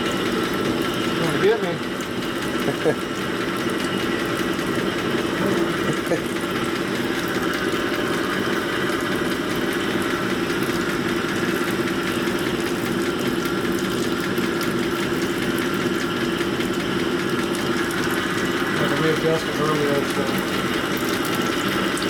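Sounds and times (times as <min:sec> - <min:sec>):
honing machine running: 0:00.0 - 0:22.0.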